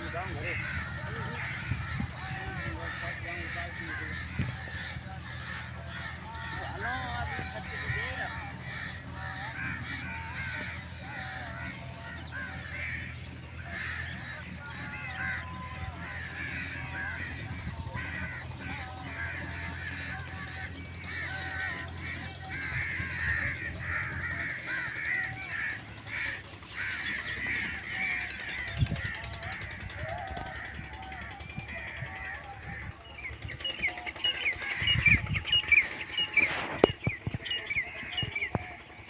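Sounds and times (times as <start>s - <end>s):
birds chattering and calling: 0.0s - 39.0s
tractor engine humming: 0.0s - 39.0s.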